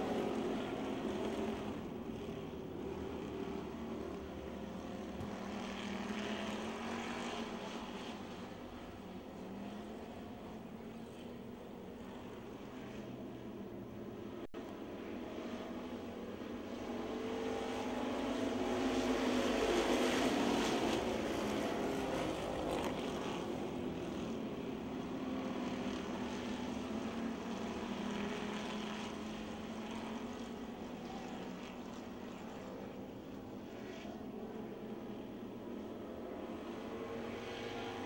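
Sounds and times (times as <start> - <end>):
race car engines at full throttle: 0.0 - 38.0.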